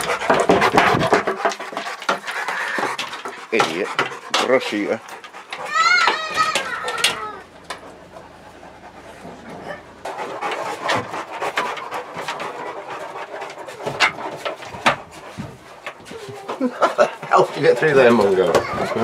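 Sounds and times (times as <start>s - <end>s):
claws clicking on wooden decking: 0.0s - 8.3s, 10.0s - 19.0s
dogs panting: 0.0s - 19.0s.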